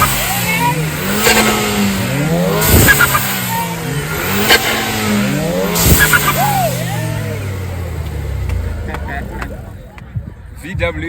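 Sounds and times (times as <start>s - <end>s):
sharp exhaust crack: 0.0s - 9.8s
car engine revving: 0.0s - 10.6s.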